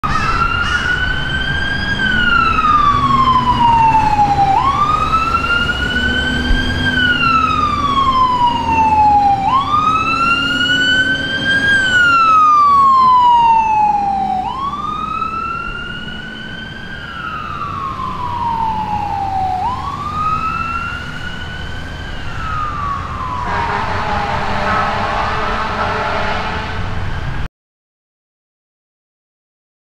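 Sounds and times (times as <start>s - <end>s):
fire engine siren wailing: 0.0s - 27.5s.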